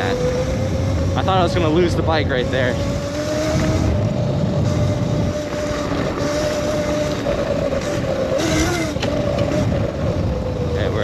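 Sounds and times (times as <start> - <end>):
electric dirt bike motor whining: 0.0 - 11.0
loud wind rumble on microphone: 0.0 - 11.0.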